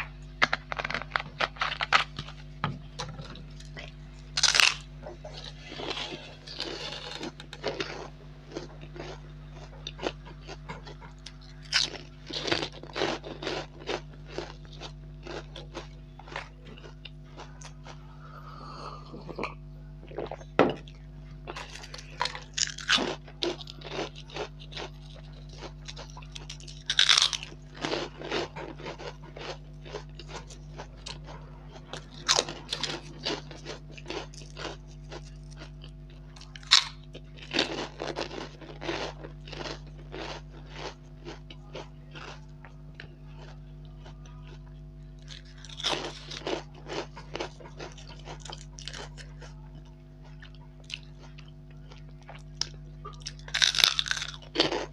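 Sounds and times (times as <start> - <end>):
crunching and chewing snacks: 0.0 - 54.9
faint steady hum: 0.0 - 54.9.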